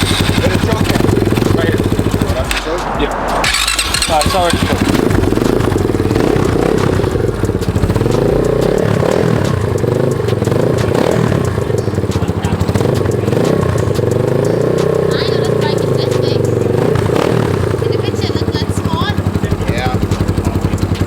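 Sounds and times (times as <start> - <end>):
dirt bike engine idling: 0.0 - 21.0.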